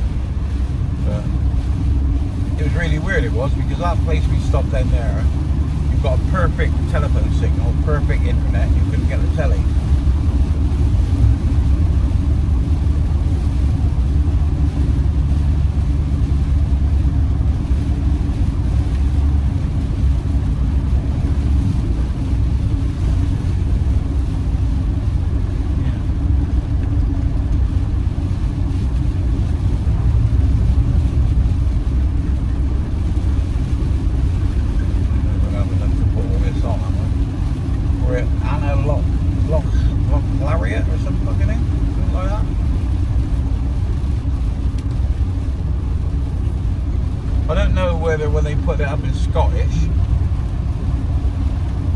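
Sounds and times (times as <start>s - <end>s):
engine and road rumble: 0.0s - 51.9s.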